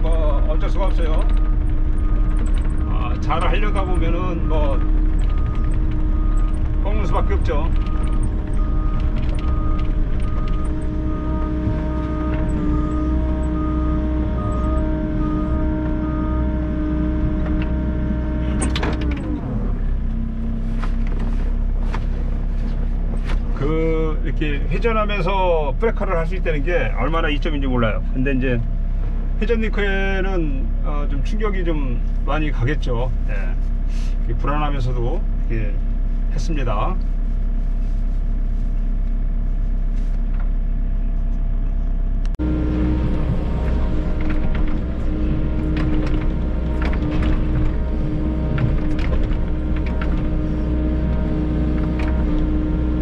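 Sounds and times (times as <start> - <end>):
excavator diesel engine running: 0.0 - 37.6, 38.2 - 53.0.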